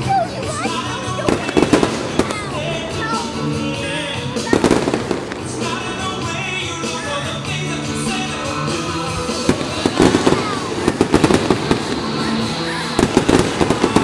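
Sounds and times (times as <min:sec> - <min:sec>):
music: 0:00.0 - 0:14.0
fireworks crackling bangs: 0:00.6 - 0:14.0.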